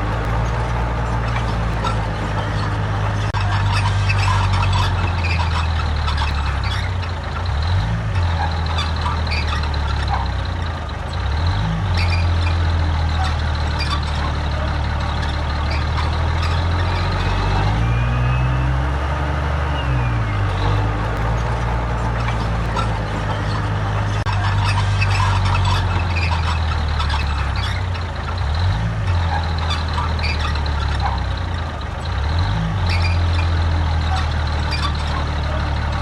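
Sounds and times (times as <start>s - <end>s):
heavy diesel machinery engine: 0.0s - 36.0s.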